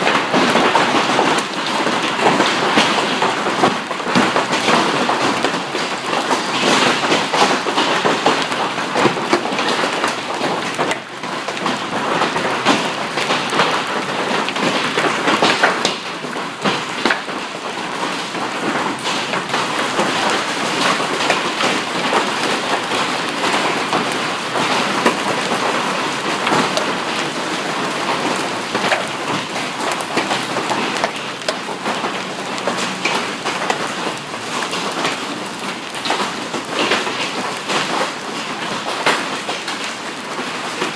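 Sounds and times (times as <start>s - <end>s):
hailstones clattering on pavement: 0.0s - 40.9s.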